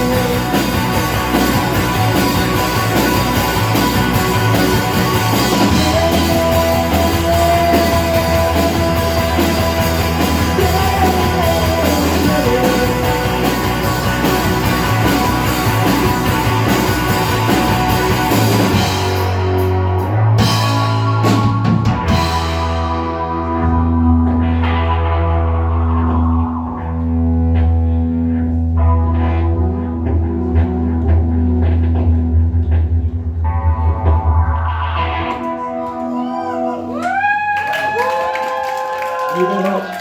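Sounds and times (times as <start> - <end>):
drum kit: 0.0 - 39.6
bass guitar: 0.0 - 39.7
electric guitar: 0.0 - 40.0.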